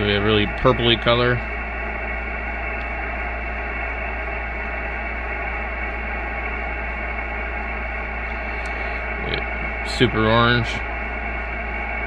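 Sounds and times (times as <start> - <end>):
low hum: 0.0 - 12.0
radio static hiss: 0.0 - 12.0.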